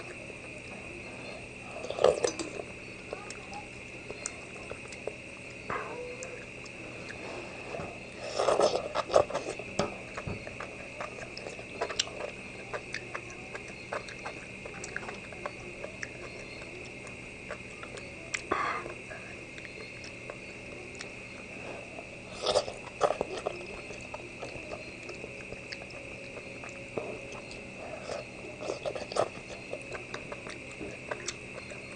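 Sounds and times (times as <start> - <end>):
chewing: 0.0 - 31.9.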